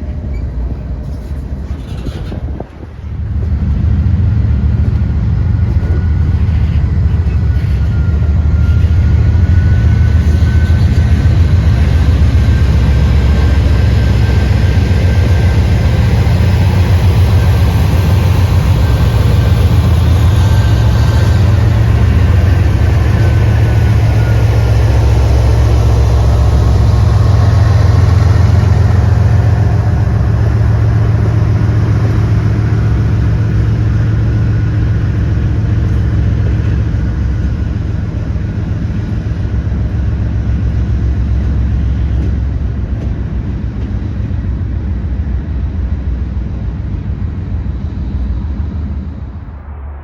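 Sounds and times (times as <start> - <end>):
train passing with deep rumble: 0.0 - 50.0.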